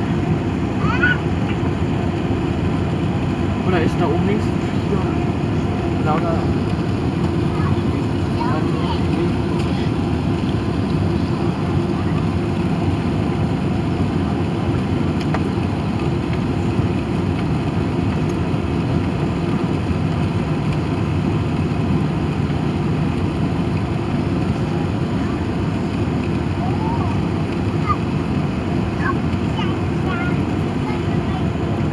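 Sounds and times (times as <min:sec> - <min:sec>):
airplane cabin engine rumble: 0:00.0 - 0:31.9.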